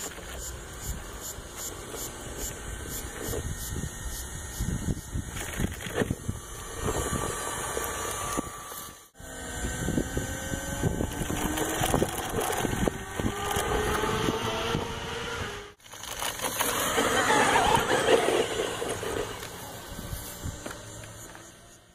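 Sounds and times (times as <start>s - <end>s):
electric motor whining: 0.0s - 21.9s.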